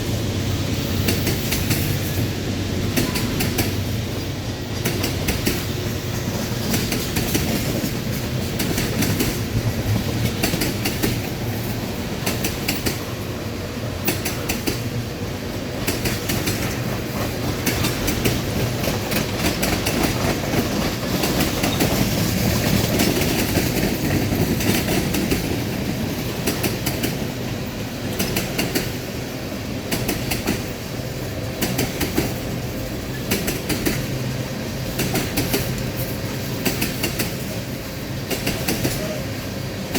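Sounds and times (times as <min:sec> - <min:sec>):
train cars rumbling past: 0:00.0 - 0:39.9
wheels clicking over rail joints: 0:00.9 - 0:39.2.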